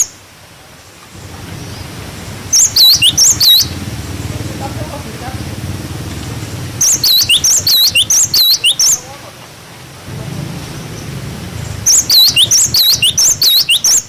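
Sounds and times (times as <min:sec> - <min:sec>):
low hum: 0:00.6 - 0:08.8, 0:09.6 - 0:13.8
bird singing high sweeping notes: 0:01.2 - 0:09.1, 0:09.9 - 0:14.0.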